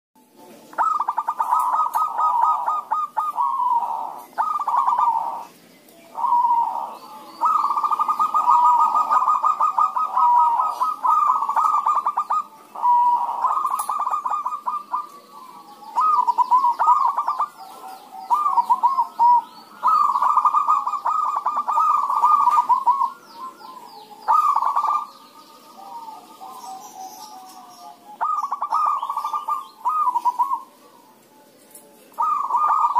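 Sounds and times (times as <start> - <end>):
doves cooing: 0.4 - 32.9.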